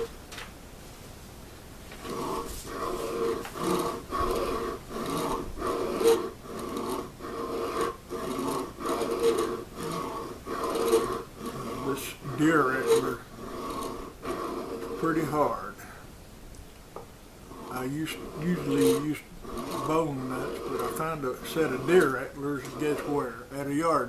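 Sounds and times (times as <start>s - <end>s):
file scraping antler: 1.9s - 16.0s, 17.5s - 24.0s.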